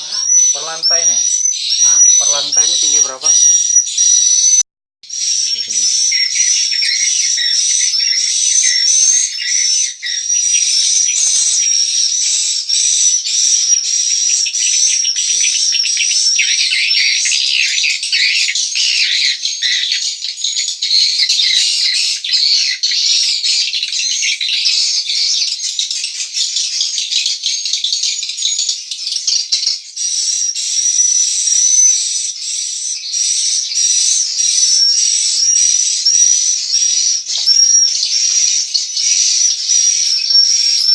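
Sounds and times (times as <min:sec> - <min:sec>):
swiftlets twittering and chirping: 0:00.0 - 0:25.0, 0:33.1 - 0:40.9.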